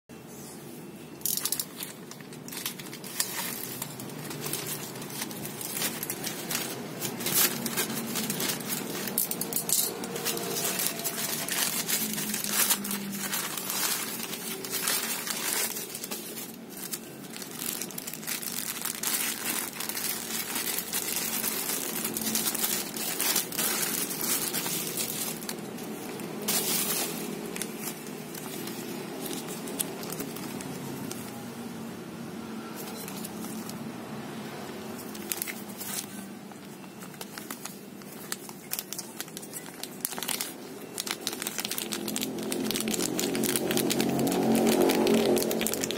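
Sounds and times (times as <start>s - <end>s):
plastic packaging crinkling: 1.2s - 31.5s, 32.8s - 33.8s, 35.0s - 45.9s.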